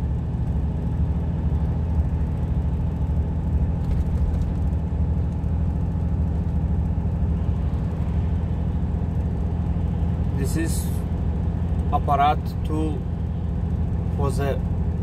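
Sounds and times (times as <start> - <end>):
road and tyre noise: 0.0 - 15.0
truck engine humming: 0.0 - 15.0.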